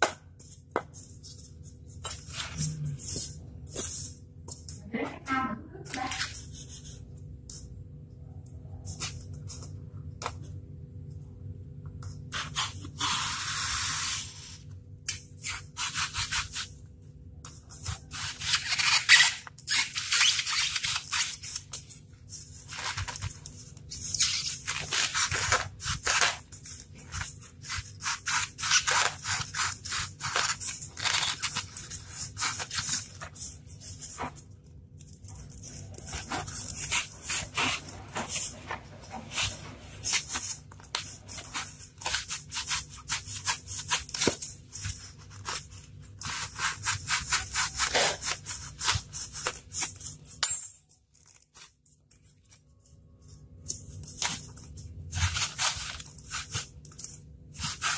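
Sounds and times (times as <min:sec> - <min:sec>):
knife scraping polystyrene foam: 0:00.0 - 0:04.2, 0:05.9 - 0:07.6, 0:12.3 - 0:16.8, 0:17.4 - 0:50.4, 0:53.8 - 0:57.9.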